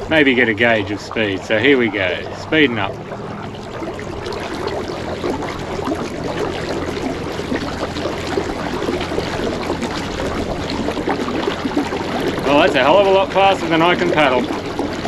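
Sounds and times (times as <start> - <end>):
water rushing along boat hull: 0.0 - 15.0.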